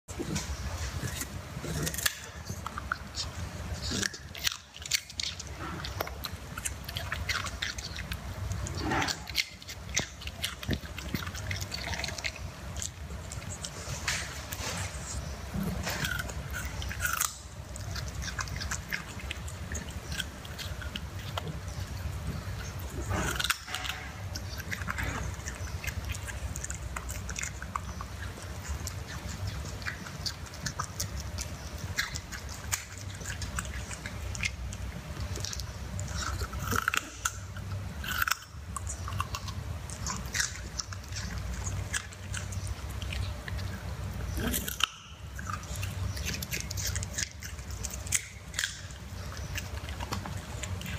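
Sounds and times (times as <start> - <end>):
puppy crunching a carrot: 0.1 - 50.9
steady low hum: 0.1 - 50.9.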